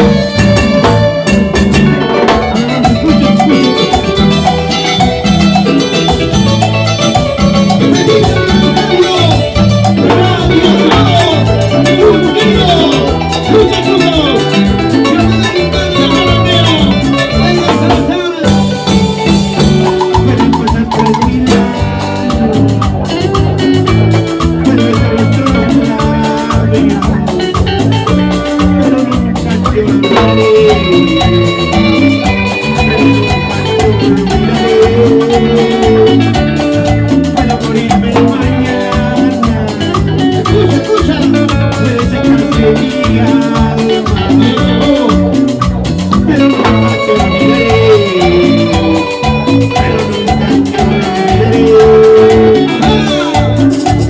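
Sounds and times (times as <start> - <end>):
latin dance band playing: 0.0 - 54.0.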